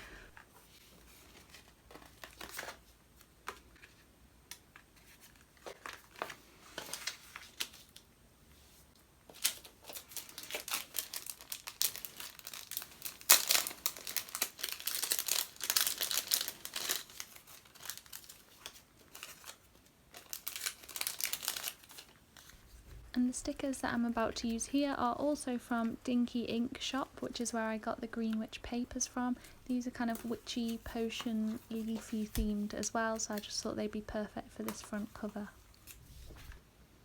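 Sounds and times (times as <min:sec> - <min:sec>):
paper crinkling: 0:00.3 - 0:25.9, 0:28.7 - 0:36.6.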